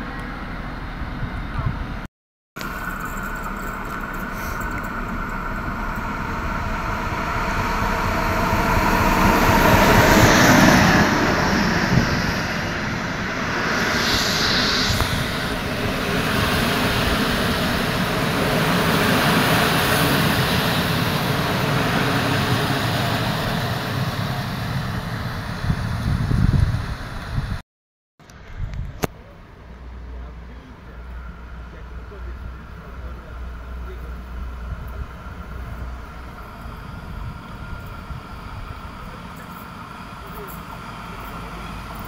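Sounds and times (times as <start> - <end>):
train wheels on rails: 2.6 - 27.4, 31.0 - 42.0
passenger train passing: 2.6 - 27.6, 29.2 - 42.0.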